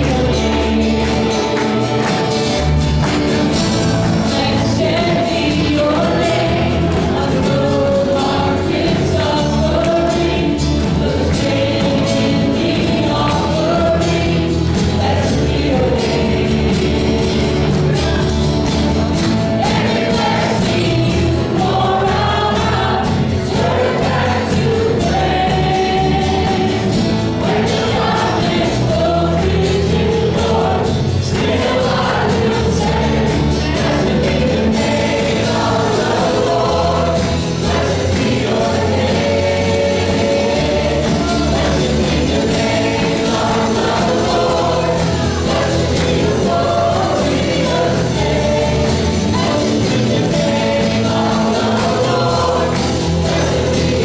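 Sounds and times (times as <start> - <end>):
band playing: 0.0 - 54.0
group singing praise song: 0.0 - 54.0.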